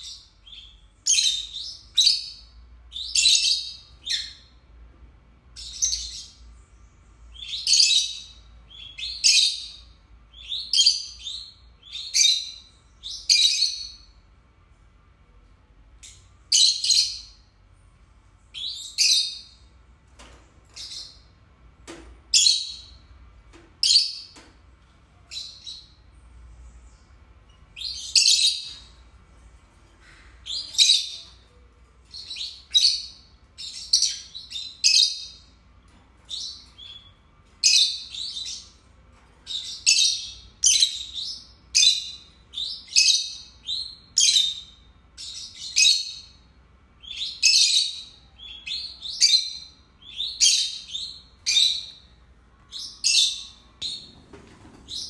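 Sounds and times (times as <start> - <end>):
lovebirds chirping and shrieking: 0.0 - 4.8, 5.5 - 14.3, 15.9 - 21.6, 22.2 - 55.0.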